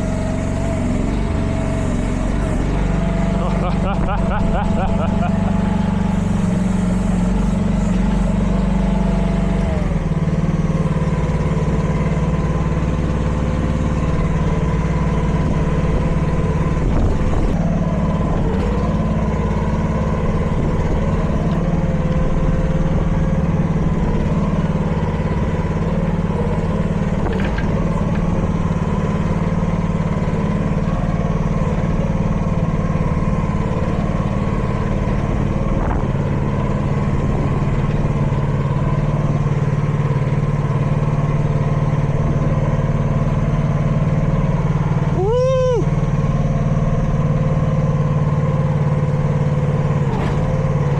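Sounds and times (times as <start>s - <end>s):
small excavator engine running: 0.0s - 50.9s.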